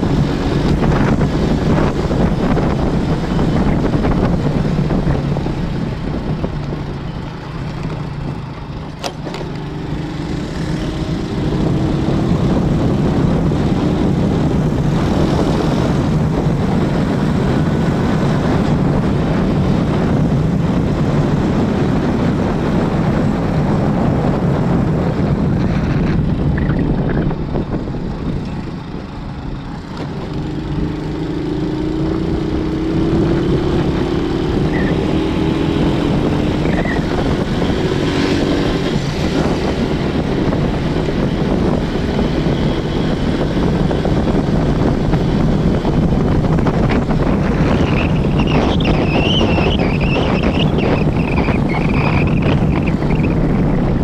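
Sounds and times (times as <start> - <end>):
road noise: 0.0 - 54.0
vehicle engine: 0.0 - 54.0.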